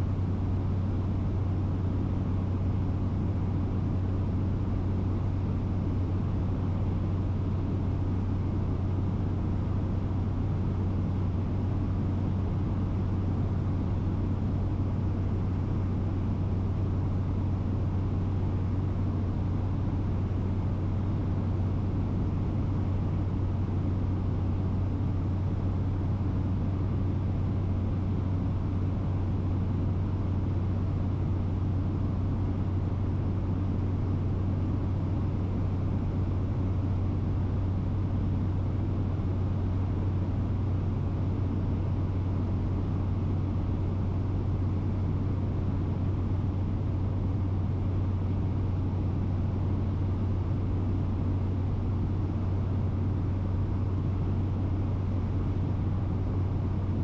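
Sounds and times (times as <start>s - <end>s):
propeller aircraft cabin drone: 0.0s - 57.0s.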